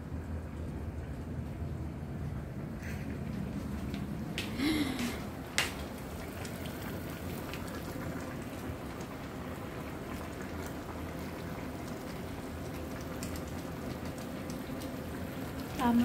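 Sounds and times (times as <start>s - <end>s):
broth bubbling and hissing: 2.3s - 16.0s.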